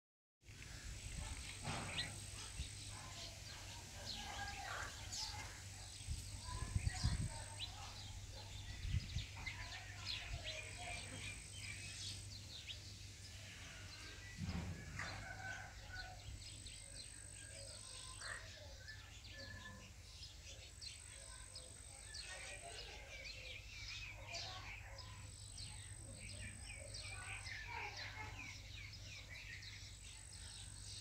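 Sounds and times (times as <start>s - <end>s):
small birds chirping: 0.5s - 31.0s.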